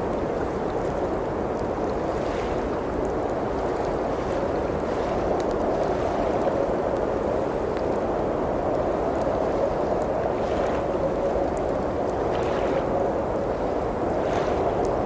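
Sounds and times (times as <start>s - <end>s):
blizzard wind blowing: 0.0s - 15.0s
wood fire crackling: 0.0s - 15.0s.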